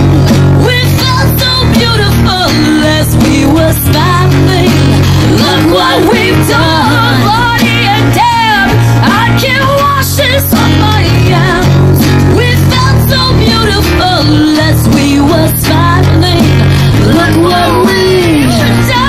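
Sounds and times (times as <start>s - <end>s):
acoustic guitars: 0.0s - 19.0s
bass notes: 0.0s - 19.0s
cajon beat: 0.0s - 19.0s
women singing: 0.0s - 19.0s.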